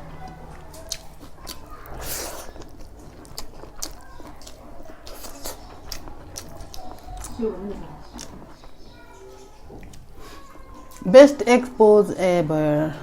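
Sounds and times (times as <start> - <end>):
person chewing: 0.0 - 11.1.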